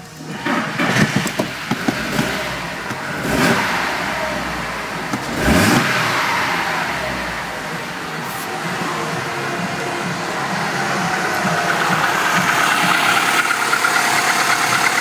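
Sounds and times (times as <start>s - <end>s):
car engine idling with revs: 0.0s - 15.0s.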